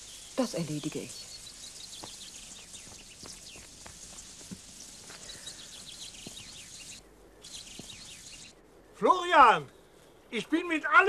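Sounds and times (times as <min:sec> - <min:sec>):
small birds chirping faintly: 0:00.0 - 0:11.0.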